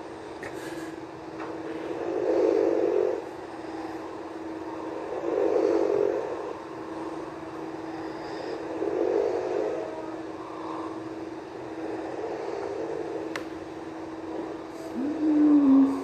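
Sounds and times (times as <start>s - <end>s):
steady hum: 0.0s - 16.0s
person snoring: 1.6s - 13.4s, 14.2s - 16.0s.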